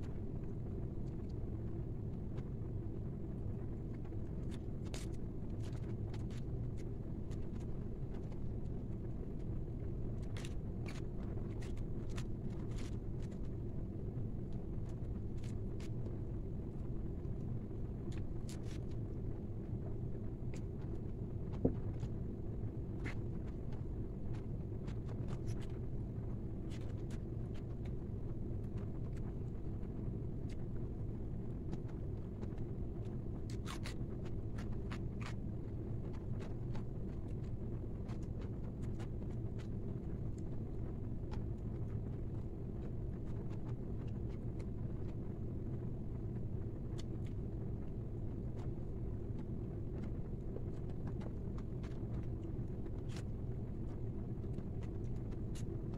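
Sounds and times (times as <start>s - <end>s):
steady low rumble: 0.0s - 55.9s.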